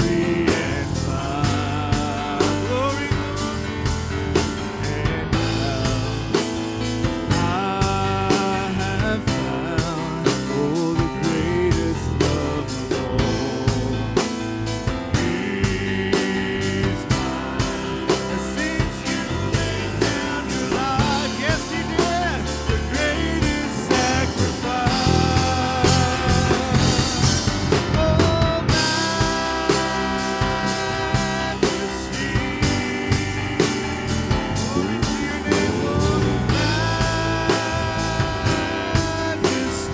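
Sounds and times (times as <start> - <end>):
drum kit steady beat: 0.0 - 39.9
live band playing: 0.0 - 39.9.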